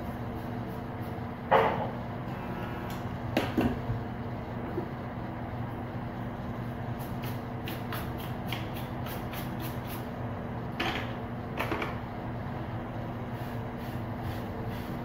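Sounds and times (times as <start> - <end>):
electrical fan hum: 0.0 - 15.0.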